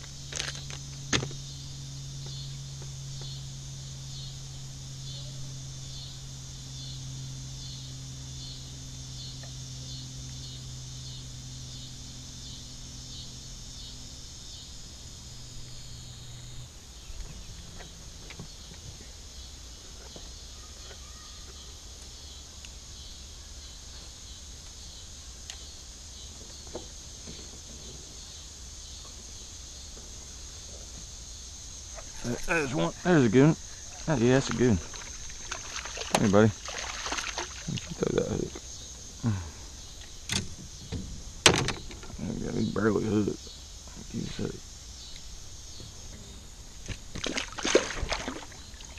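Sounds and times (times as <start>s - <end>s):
insects chirping: 0.0s - 48.9s
low steady hum: 0.0s - 48.9s.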